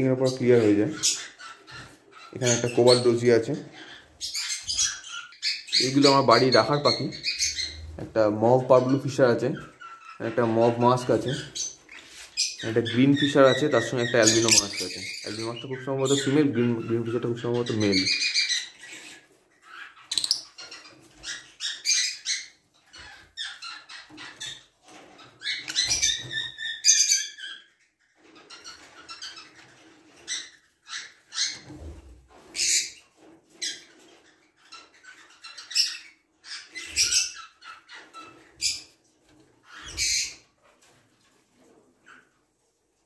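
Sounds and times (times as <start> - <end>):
lovebirds chirping: 0.0 - 39.0.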